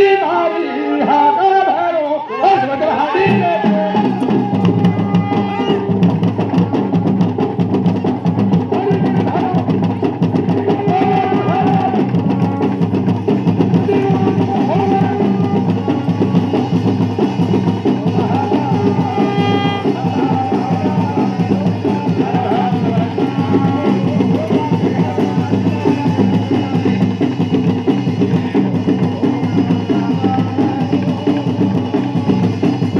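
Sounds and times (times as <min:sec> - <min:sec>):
faint voices and instruments: 0:00.0 - 0:32.9
drum beating fast: 0:02.4 - 0:32.9.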